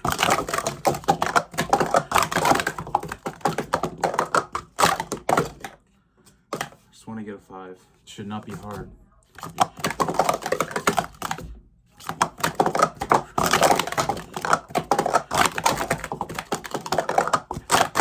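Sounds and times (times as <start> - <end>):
plastic cups clattering: 0.0 - 5.8, 6.5 - 6.8, 8.4 - 18.0.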